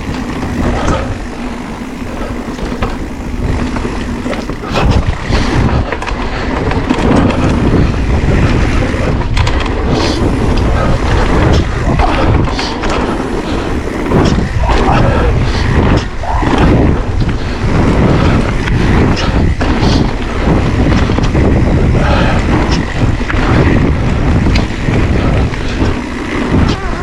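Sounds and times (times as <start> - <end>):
bike knocks and rattles: 0.0 - 27.0
tyre rumble: 0.0 - 27.0
wind buffeting microphone: 0.0 - 27.0.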